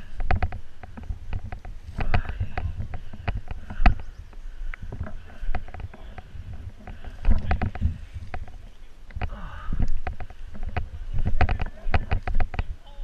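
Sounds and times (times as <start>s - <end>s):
camera jostling knocks and thumps: 0.0s - 12.8s
footsteps through dry grass: 0.0s - 12.9s
rustling brush: 0.0s - 13.0s.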